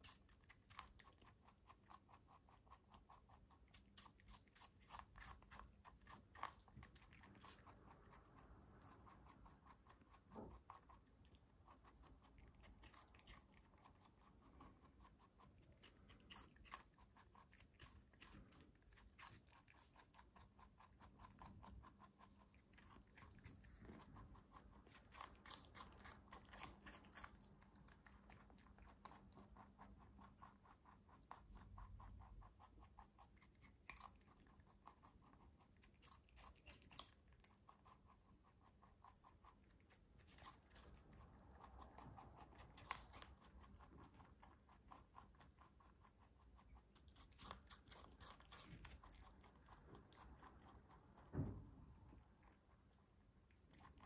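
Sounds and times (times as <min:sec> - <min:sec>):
rabbit chewing cucumber: 0:00.0 - 0:54.0.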